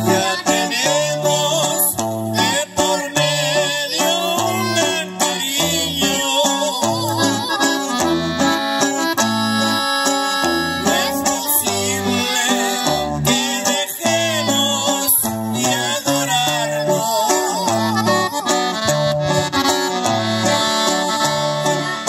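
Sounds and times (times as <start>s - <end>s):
accordion melody: 0.0s - 22.0s
bass line: 0.0s - 22.0s
strummed guitar: 0.0s - 22.0s.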